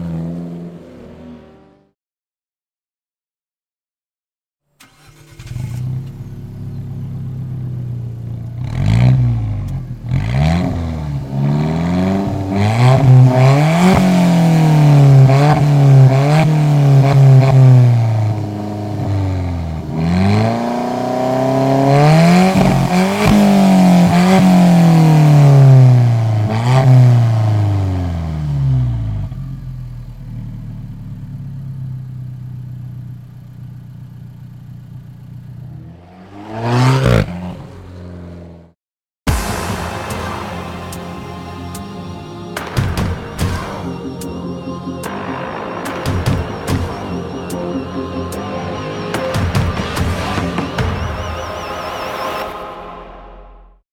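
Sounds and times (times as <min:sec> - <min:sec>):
car engine idling and revving: 0:00.0 - 0:02.0, 0:04.8 - 0:52.6.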